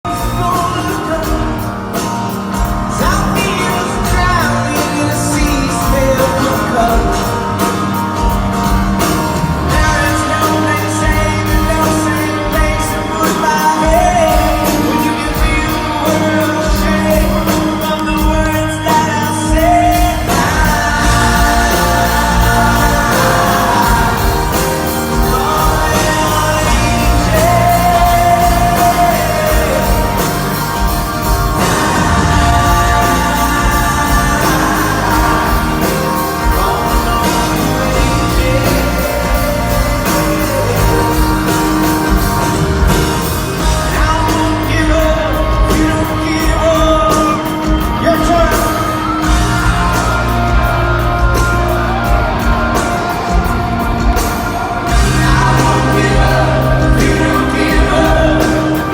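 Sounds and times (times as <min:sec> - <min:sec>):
lead singer singing: 0:00.0 - 0:58.9
pop-rock band playing: 0:00.0 - 0:58.9.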